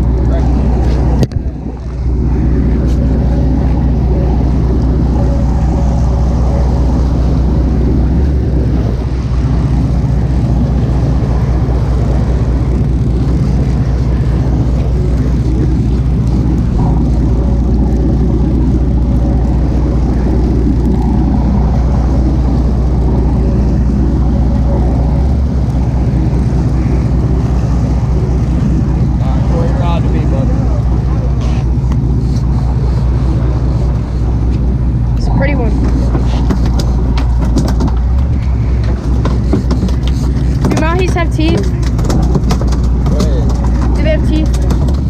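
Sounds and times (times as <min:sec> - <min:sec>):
boat engine running: 0:00.0 - 0:45.0.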